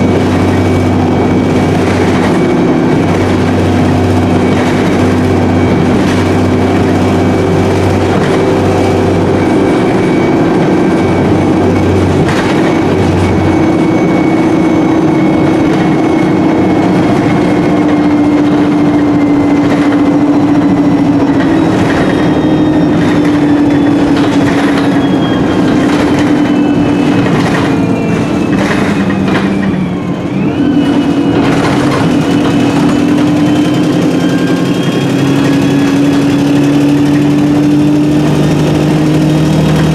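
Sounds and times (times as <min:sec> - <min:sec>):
bus engine and gearbox whine: 0:00.0 - 0:39.9.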